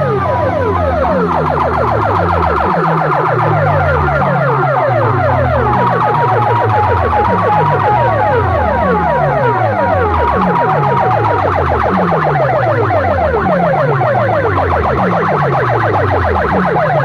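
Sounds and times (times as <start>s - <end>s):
beep melody: 0.0s - 17.0s
electronic siren effect: 0.0s - 17.0s.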